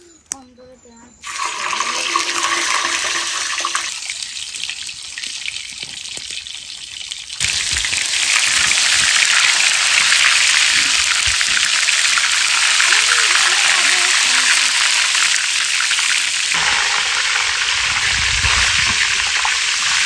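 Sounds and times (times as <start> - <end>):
potatoes sizzling in hot oil: 1.2 - 20.0.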